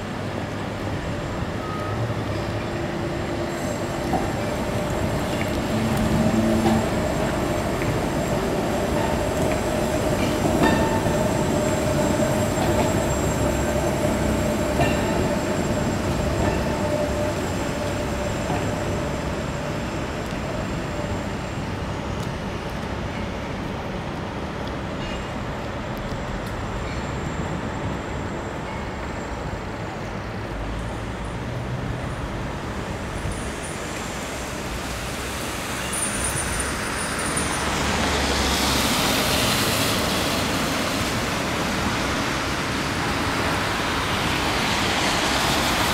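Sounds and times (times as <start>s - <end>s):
streetcar rumbling on rails: 0.0s - 45.9s.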